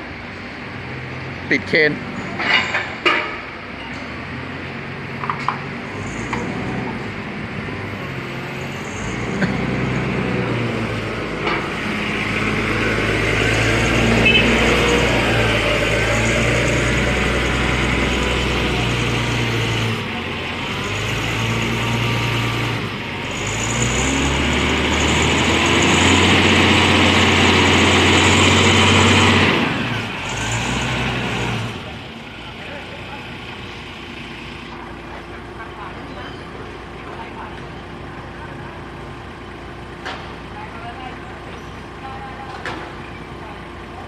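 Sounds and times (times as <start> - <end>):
forklift engine running: 0.0 - 44.0.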